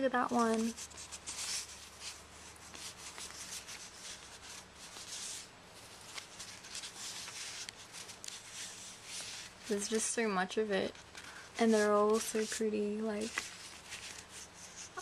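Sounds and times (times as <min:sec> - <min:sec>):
paper sheets rustling: 0:00.0 - 0:15.0.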